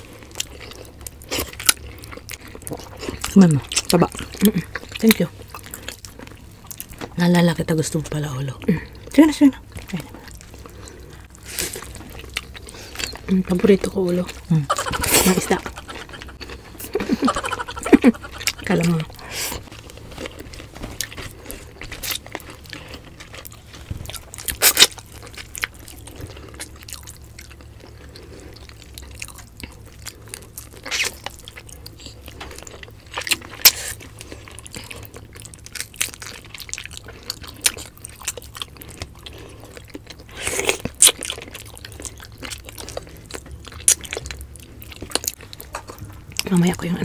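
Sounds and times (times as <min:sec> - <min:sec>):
people chewing: 0:00.0 - 0:47.0.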